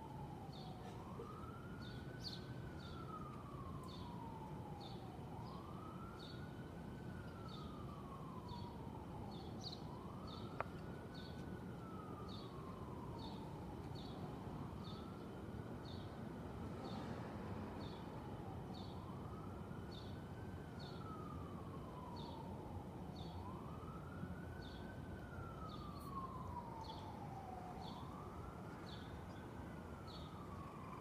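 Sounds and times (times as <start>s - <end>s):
city hum: 0.0s - 31.0s
emergency siren wailing: 0.0s - 31.0s.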